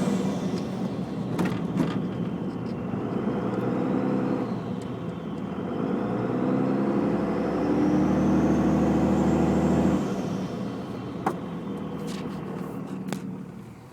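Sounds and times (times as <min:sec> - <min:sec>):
diesel engine revving: 0:00.0 - 0:13.9.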